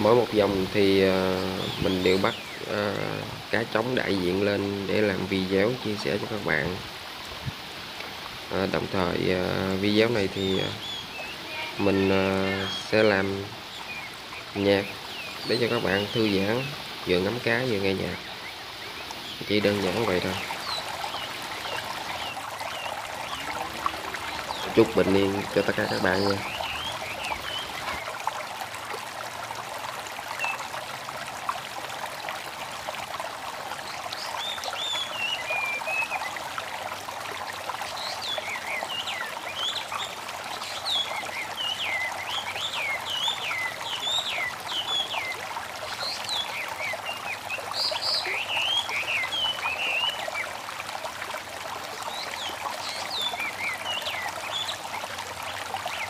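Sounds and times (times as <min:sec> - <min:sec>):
birds chirping: 0:00.0 - 0:06.8, 0:08.5 - 0:28.4, 0:33.8 - 0:36.4, 0:37.8 - 0:50.6, 0:52.0 - 0:56.0
stream babbling: 0:00.0 - 0:56.0.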